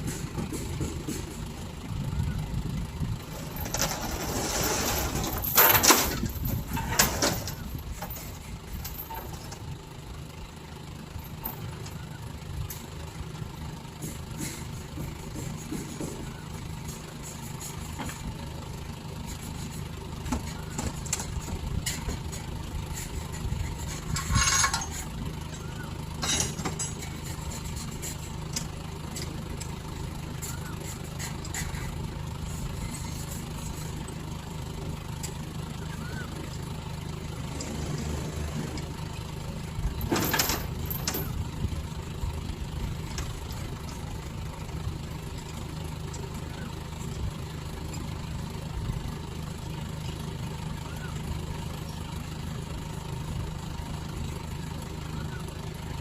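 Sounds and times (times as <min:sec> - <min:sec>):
lorry engine running: 0:00.0 - 0:56.0.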